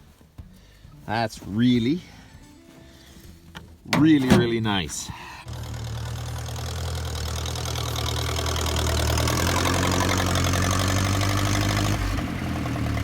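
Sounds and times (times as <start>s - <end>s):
tractor engine idling: 1.0s - 13.0s.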